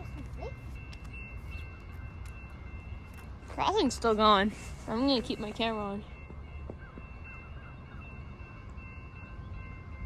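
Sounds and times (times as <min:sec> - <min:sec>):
level-crossing warning bell ringing: 0:00.0 - 0:10.0.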